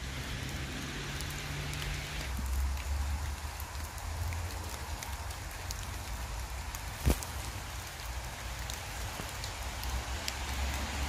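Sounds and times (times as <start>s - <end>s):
rain falling: 0.0s - 11.0s
water drips: 0.0s - 11.0s.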